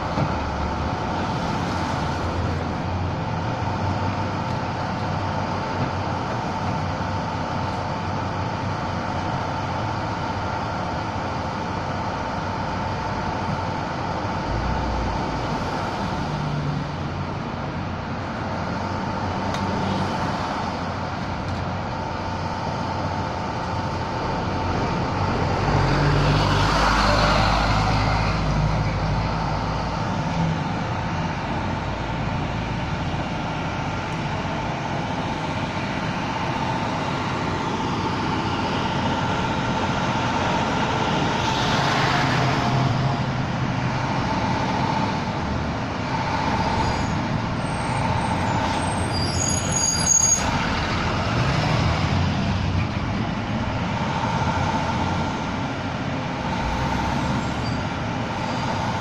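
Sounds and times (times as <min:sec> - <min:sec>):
garbage truck engine: 0:00.0 - 0:59.0.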